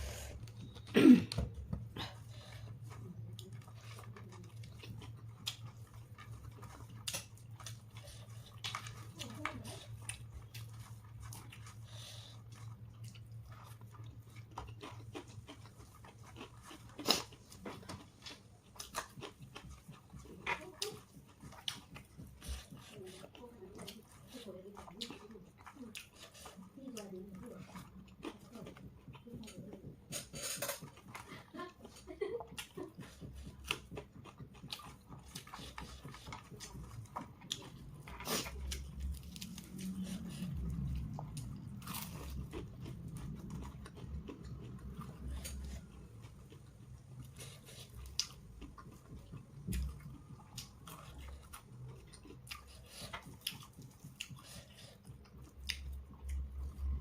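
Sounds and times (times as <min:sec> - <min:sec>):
low steady hum: 0:00.0 - 0:57.0
person chewing food: 0:00.0 - 0:57.0.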